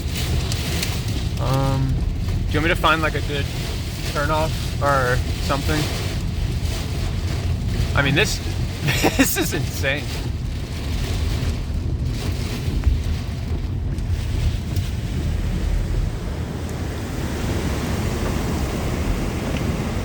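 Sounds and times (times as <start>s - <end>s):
strong wind buffeting car: 0.0s - 20.0s.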